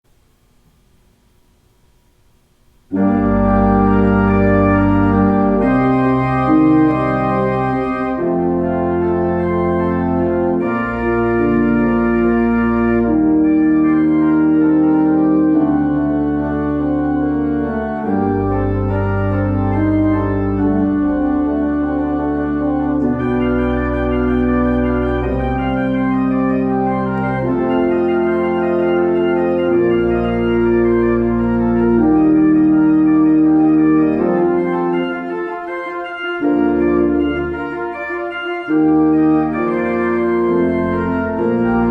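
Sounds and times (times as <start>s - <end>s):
organ music: 2.9s - 41.9s.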